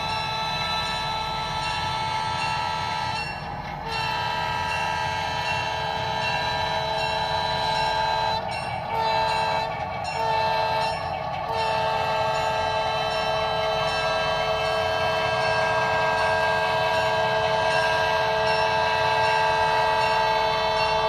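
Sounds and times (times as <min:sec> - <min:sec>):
low locomotive rumble: 0:00.0 - 0:21.0
model locomotive horn chord: 0:00.0 - 0:21.0.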